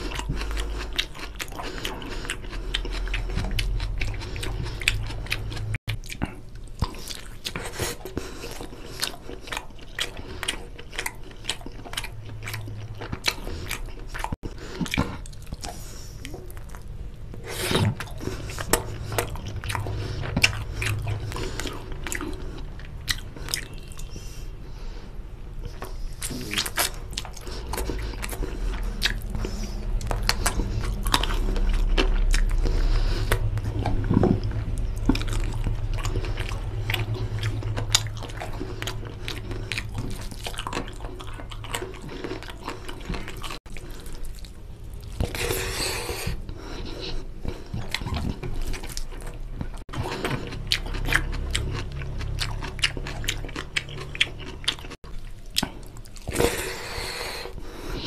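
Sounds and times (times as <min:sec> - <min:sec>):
chewing and mouth clicks: 0:00.0 - 0:24.5, 0:25.6 - 0:58.0.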